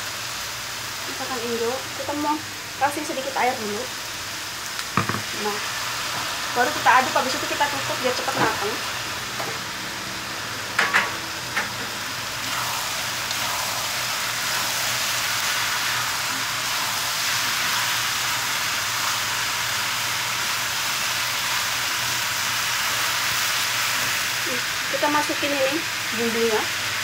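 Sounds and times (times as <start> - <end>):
vegetables sizzling in a wok: 0.0 - 27.0.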